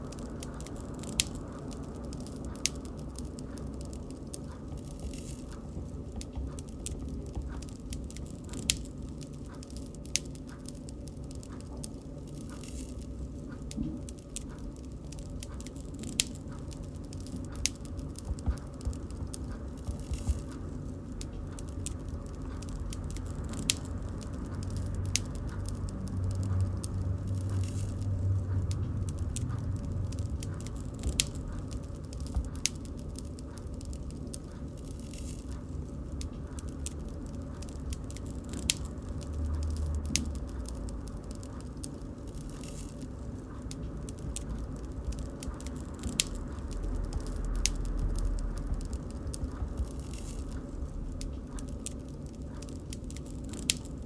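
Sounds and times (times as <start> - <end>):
burning wood snapping and popping: 0.0 - 54.0
low rumble of flames: 0.0 - 54.0.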